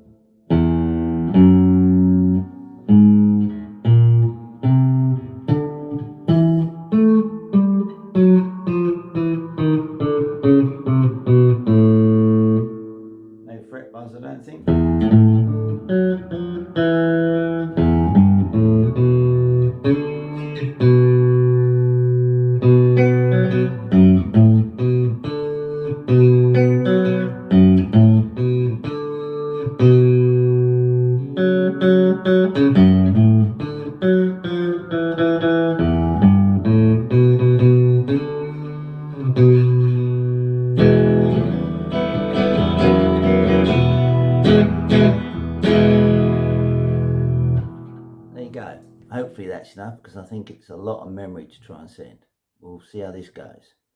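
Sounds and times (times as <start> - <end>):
electric guitar playing: 0.0 - 49.2.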